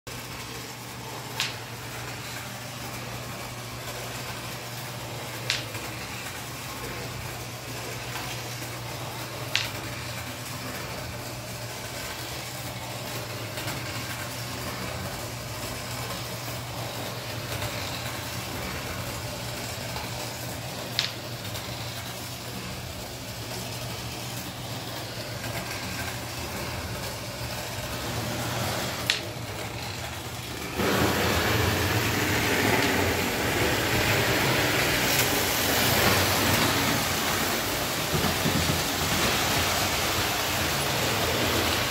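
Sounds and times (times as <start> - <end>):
toy train running on track: 0.1 - 41.9.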